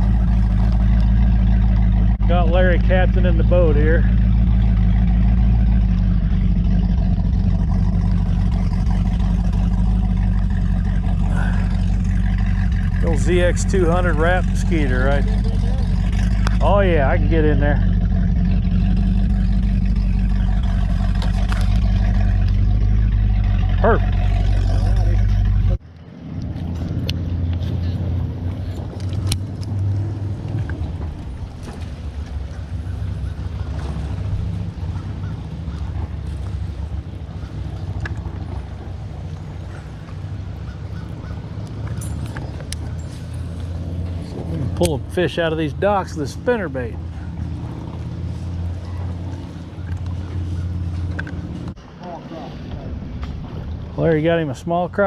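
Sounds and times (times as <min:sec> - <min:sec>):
outboard motor running: 0:00.0 - 0:55.0
water noise: 0:00.0 - 0:55.0.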